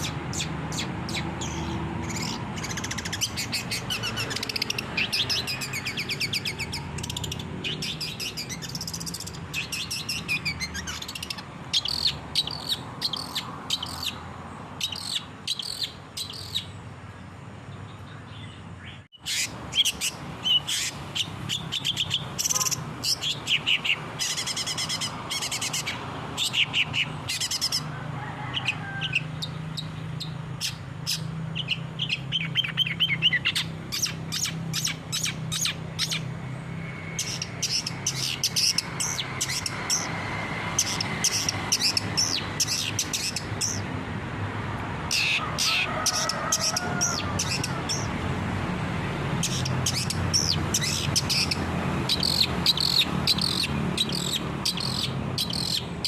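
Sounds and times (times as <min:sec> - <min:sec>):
bird singing scratchy chattering song: 0:00.0 - 0:27.9, 0:28.6 - 0:44.0, 0:45.0 - 0:48.2, 0:49.3 - 0:56.0.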